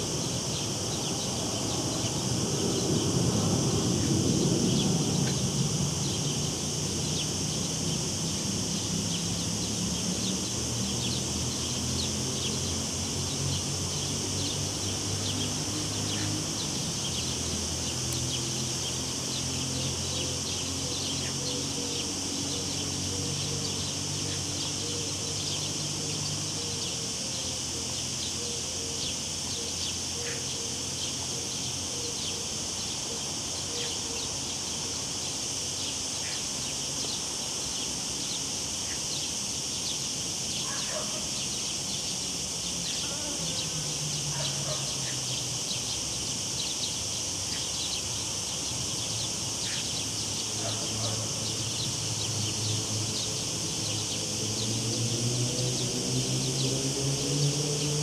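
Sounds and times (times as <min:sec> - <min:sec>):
cicadas droning: 0:00.0 - 0:58.0
distant traffic hum: 0:00.0 - 0:58.0.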